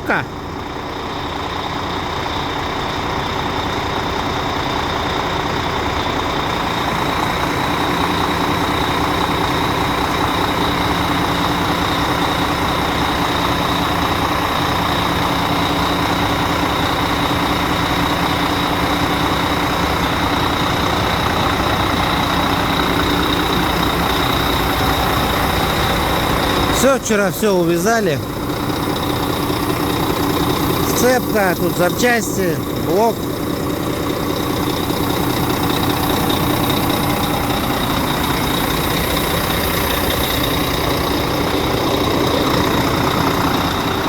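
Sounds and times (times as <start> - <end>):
truck diesel engine idling: 0.0 - 44.0.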